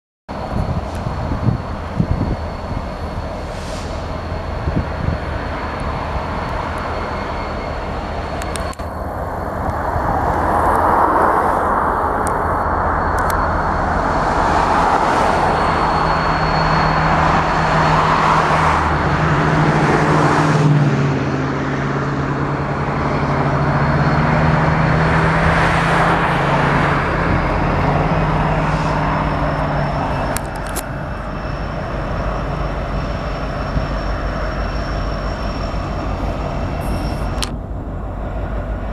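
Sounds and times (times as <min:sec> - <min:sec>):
freight train rolling past: 0:00.3 - 0:38.9
low engine drone: 0:00.3 - 0:38.9.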